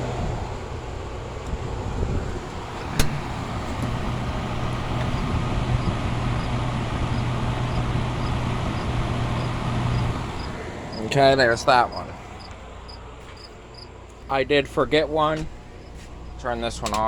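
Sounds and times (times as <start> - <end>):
air conditioner fan and compressor: 0.0 - 17.0.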